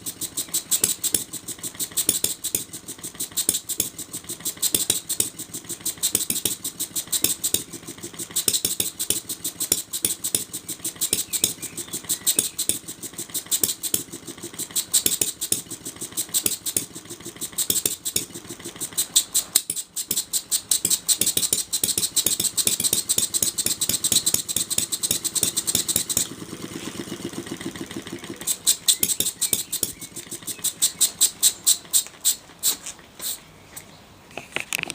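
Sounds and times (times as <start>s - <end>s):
small model engine popping: 0.0s - 33.4s, 34.3s - 34.9s.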